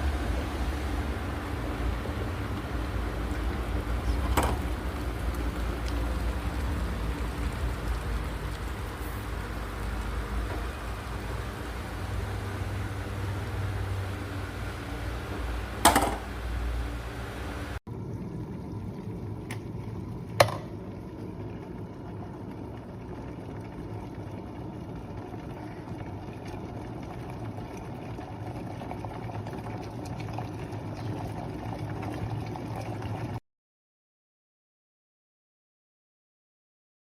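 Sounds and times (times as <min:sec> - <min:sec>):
electric kettle heating water: 0:00.0 - 0:33.4.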